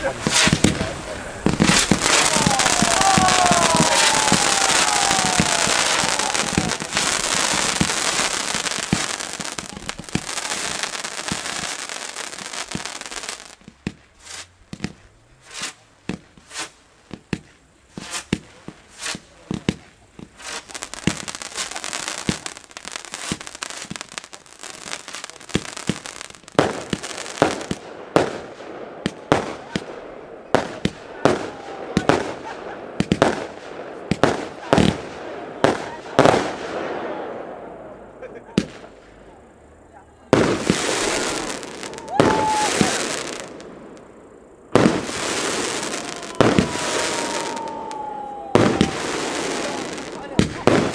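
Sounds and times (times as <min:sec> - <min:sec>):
fireworks shots and bangs: 0:00.0 - 0:37.6, 0:40.3 - 0:50.9
fireworks hissing and crackling: 0:00.0 - 0:50.9.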